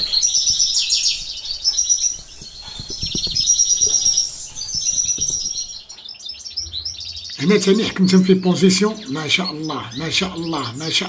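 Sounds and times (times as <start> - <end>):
finches twittering: 0.0 - 11.0.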